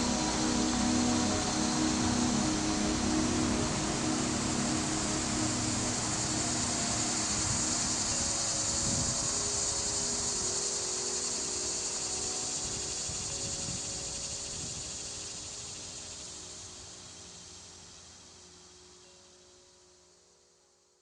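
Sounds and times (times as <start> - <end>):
faint low sustained tones: 0.0 - 17.2
insect chorus: 0.0 - 21.0.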